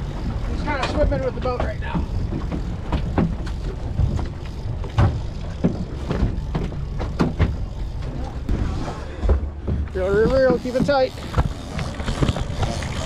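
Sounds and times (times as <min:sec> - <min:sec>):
boat rumbling on water: 0:00.0 - 0:13.0
knocks and thumps: 0:00.8 - 0:07.7, 0:08.4 - 0:12.9.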